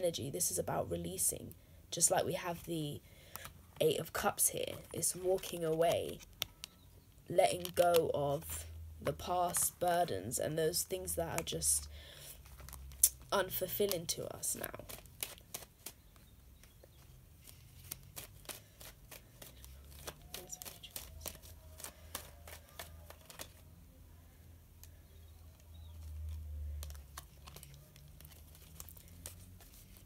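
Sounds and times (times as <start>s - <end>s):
cards being shuffled: 3.2s - 23.8s, 24.8s - 30.0s.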